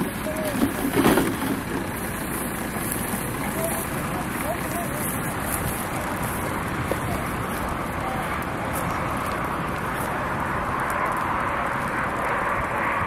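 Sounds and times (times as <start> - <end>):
brush fire burning: 0.0 - 13.0
highway traffic: 0.0 - 13.0.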